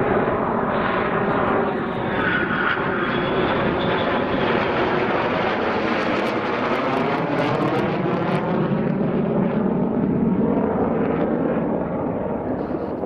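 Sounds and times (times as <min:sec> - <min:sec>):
jet passing overhead: 0:00.0 - 0:13.0.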